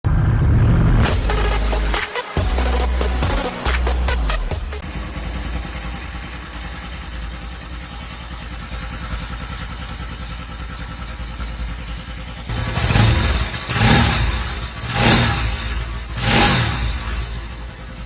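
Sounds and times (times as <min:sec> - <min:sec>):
motorcycle engine idling: 0:01.1 - 0:18.0.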